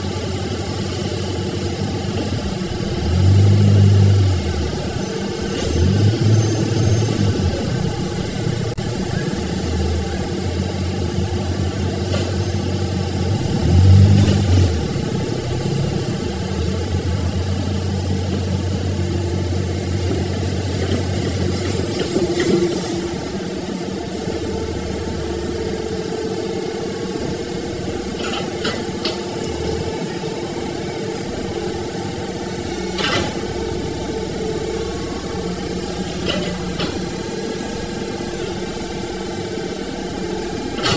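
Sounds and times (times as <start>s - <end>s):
heavy machinery diesel engine running: 0.0s - 40.9s.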